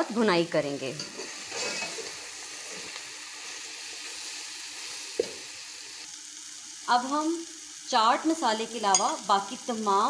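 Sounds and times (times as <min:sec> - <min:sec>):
vegetables sizzling in a metal pot: 0:00.0 - 0:10.0.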